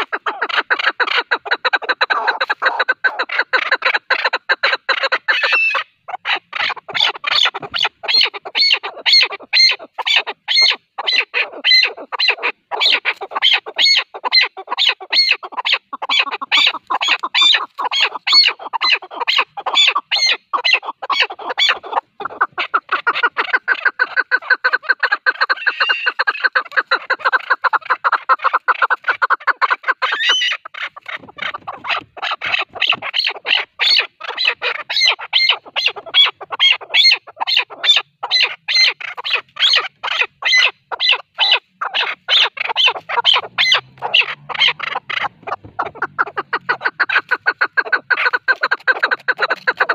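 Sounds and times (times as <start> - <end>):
partridge chuck calls: 0.0 - 49.9.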